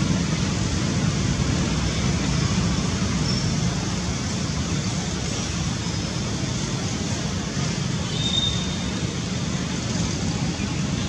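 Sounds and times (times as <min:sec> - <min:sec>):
rumbling outdoor background noise: 0:00.0 - 0:11.0.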